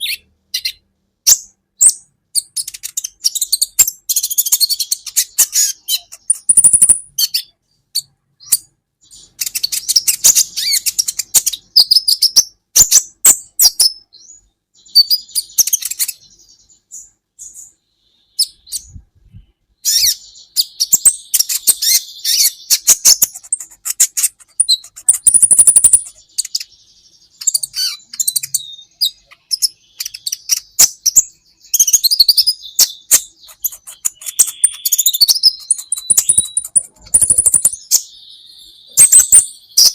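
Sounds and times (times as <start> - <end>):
bird high-pitched chirps and trills: 0.0 - 39.9.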